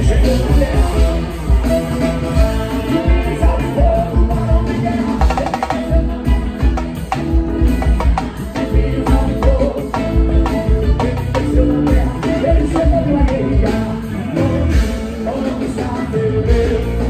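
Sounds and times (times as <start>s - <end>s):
electric guitar: 0.0s - 17.0s
person singing: 0.0s - 17.0s
steady drum beat: 0.0s - 17.0s.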